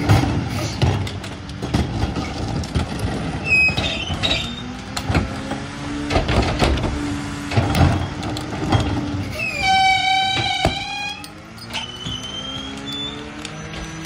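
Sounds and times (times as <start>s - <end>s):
garbage truck engine running: 0.0s - 14.0s
trash cart clanking against tipper: 0.0s - 14.0s.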